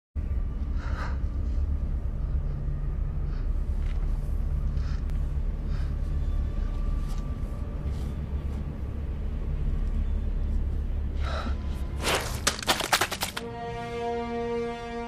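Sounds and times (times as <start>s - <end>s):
deep tense ambient rumble: 0.2s - 15.0s.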